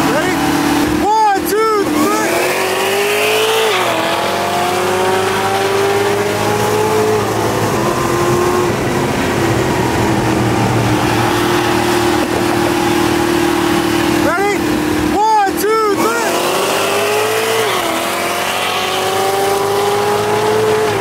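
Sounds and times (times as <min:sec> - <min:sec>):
car engines at full throttle: 0:00.0 - 0:21.0.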